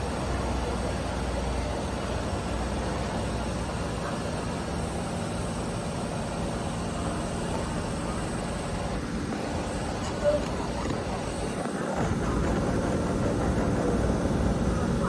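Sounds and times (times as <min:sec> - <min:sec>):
electric train rumble: 0:00.0 - 0:15.0
low hum: 0:00.0 - 0:15.0.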